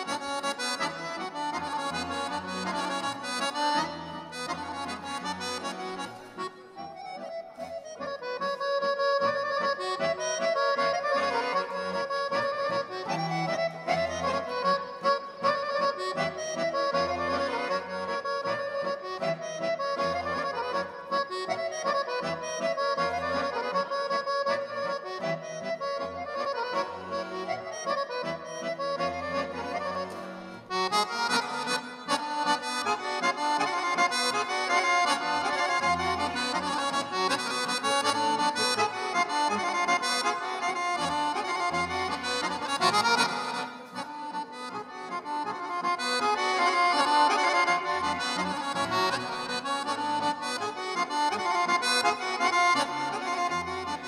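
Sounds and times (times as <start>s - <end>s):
accordion duet: 0.0s - 54.0s.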